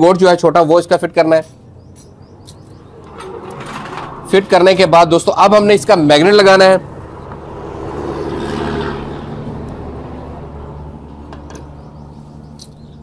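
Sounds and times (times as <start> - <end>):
vehicle engine passing: 2.3 - 13.0.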